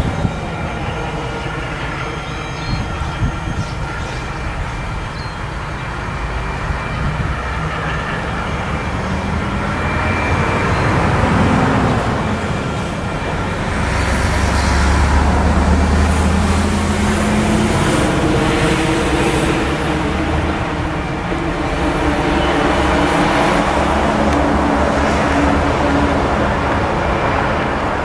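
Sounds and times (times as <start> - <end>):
freight train rumbling past: 0.0 - 28.0
low engine tones: 0.0 - 28.0
wheels hissing: 0.0 - 28.0.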